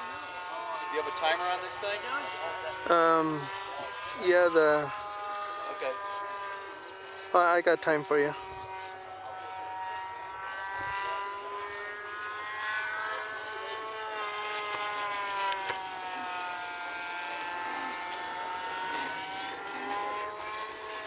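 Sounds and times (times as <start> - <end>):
model airplane motor whine: 0.0 - 21.0.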